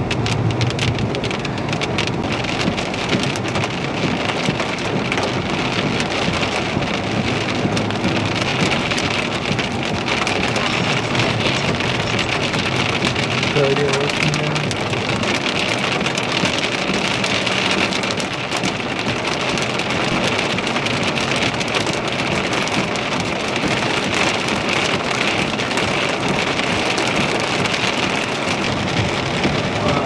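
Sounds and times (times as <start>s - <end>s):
heavy rain hiss: 0.2s - 30.0s.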